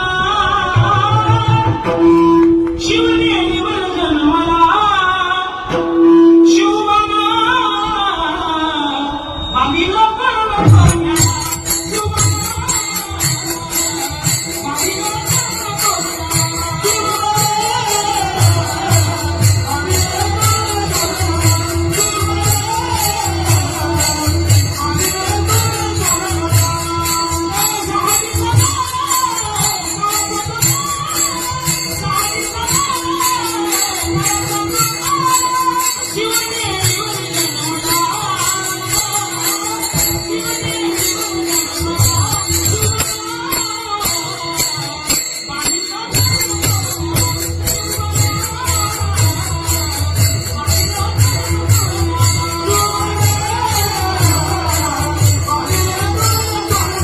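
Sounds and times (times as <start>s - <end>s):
small cymbals jingling: 10.9s - 57.0s
wavering melody: 10.9s - 57.0s.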